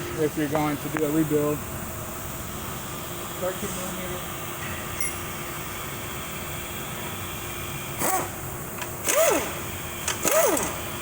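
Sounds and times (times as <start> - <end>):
steady fan hum: 0.0 - 11.0.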